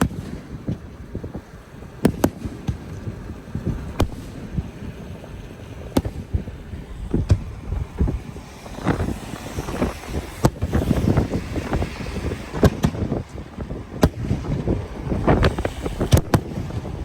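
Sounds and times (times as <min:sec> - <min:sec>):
fireworks bangs: 0:00.0 - 0:17.0
wind on microphone: 0:00.0 - 0:17.0.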